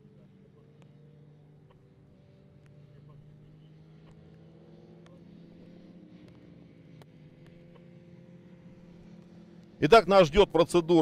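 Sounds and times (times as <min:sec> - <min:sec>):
distant motorcycle engines humming: 0:00.0 - 0:11.0.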